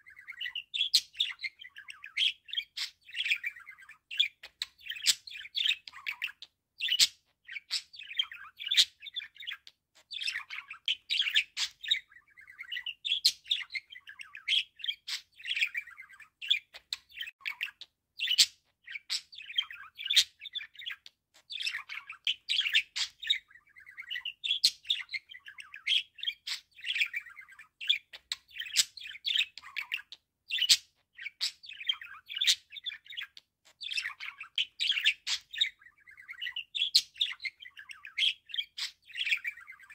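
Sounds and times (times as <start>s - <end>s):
budgerigar warbling and chattering: 0.0s - 39.9s.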